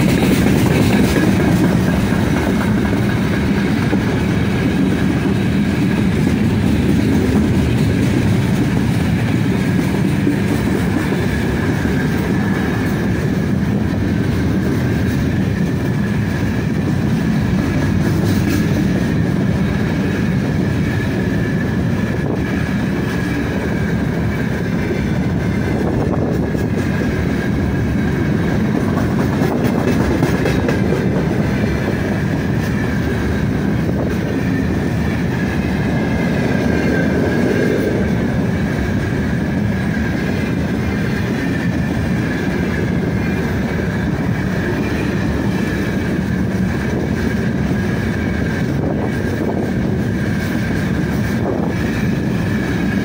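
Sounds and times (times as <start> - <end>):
clickety-clack over rail joints: 0.0 - 53.0
train wheels rumbling on rails: 0.0 - 53.0.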